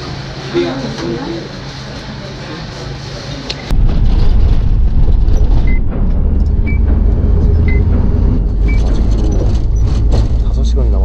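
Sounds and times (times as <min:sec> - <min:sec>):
bus interior rumble: 0:00.0 - 0:11.0.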